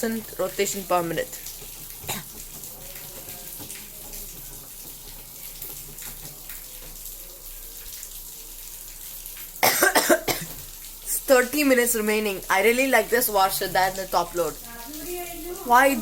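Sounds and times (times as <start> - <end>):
washing machine water sloshing: 0.0 - 16.0.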